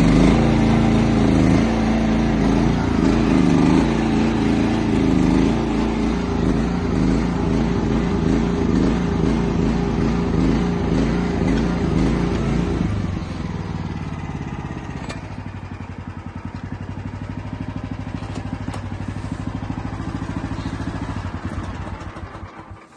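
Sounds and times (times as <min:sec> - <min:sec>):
small excavator engine running: 0:00.0 - 0:22.9.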